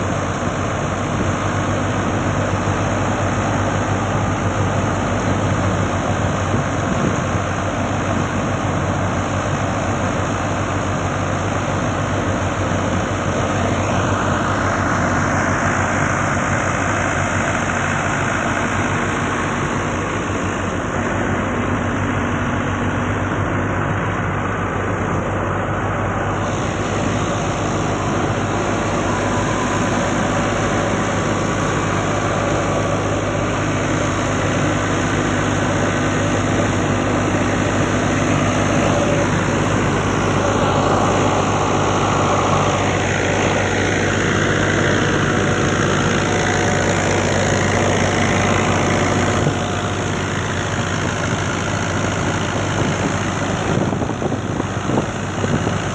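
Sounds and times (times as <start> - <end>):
thresher machinery running: 0.0 - 55.9
tractor diesel engine running: 0.0 - 55.9.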